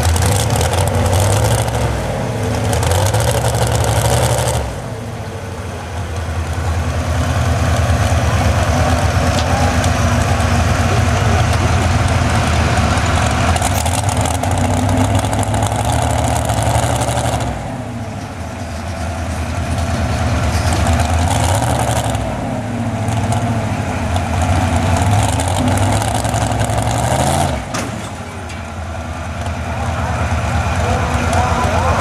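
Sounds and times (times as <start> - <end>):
heavy vehicle engine running: 0.0 - 32.0.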